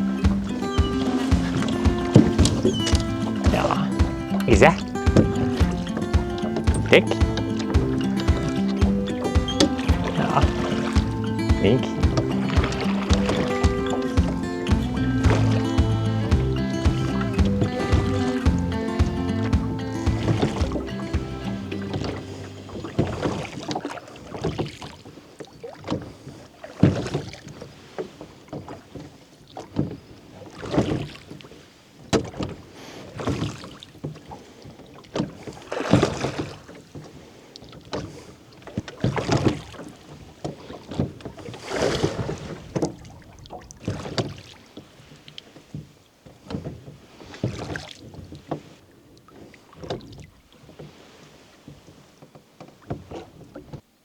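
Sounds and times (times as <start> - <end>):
oars splashing in water: 0.0 - 54.0.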